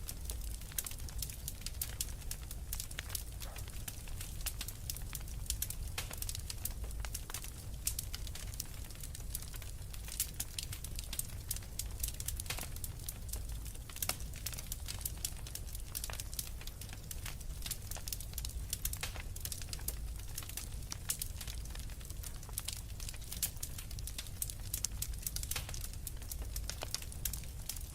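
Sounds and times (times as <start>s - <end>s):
low rumble of flames: 0.0s - 27.9s
wood fire crackling and popping: 0.0s - 27.9s.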